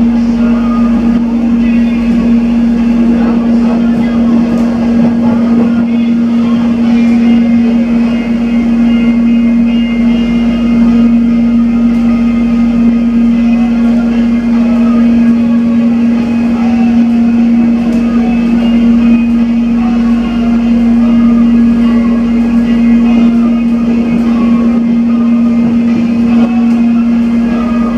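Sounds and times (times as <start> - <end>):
electric train cabin hum: 0.0 - 27.9
train running noise: 0.0 - 27.9.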